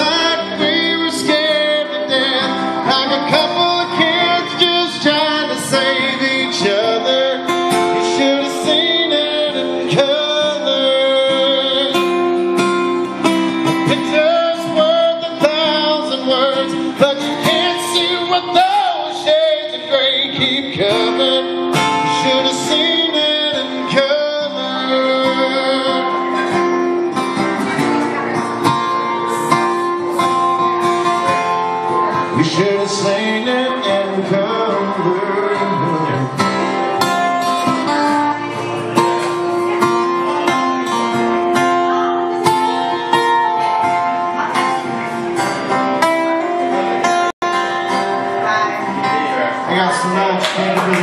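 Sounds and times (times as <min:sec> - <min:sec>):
electric guitar: 0:00.0 - 0:51.0
live band music: 0:00.0 - 0:51.0.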